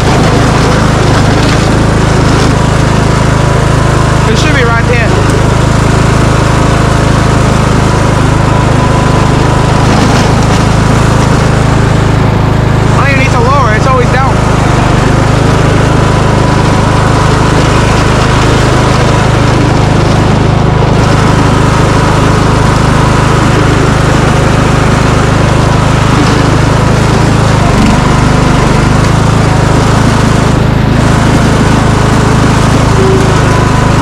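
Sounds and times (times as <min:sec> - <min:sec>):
riding lawn mower engine running: 0:00.0 - 0:34.0.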